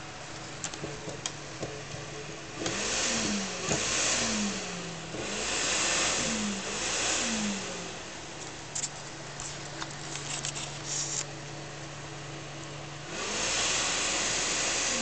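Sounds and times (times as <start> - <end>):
computer cooling fan running: 0.0 - 15.0.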